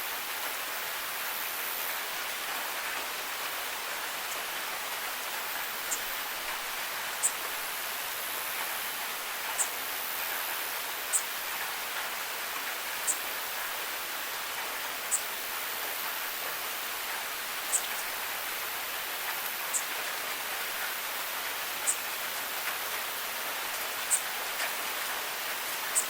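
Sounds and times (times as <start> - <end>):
rain on hard surfaces: 0.0 - 26.0.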